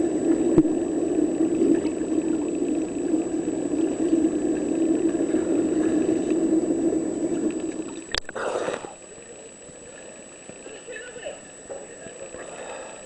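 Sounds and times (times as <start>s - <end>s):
underwater low hum: 0.0s - 13.0s.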